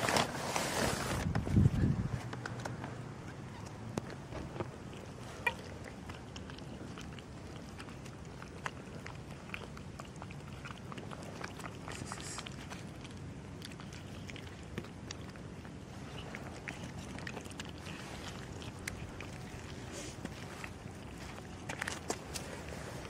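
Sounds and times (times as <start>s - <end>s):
cats chewing and lapping: 0.0s - 23.0s.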